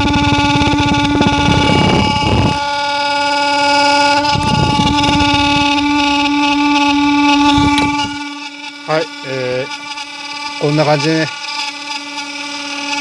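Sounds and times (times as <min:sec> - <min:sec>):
blower fan motor humming: 0:00.0 - 0:13.0
rough grating bursts: 0:00.0 - 0:13.0.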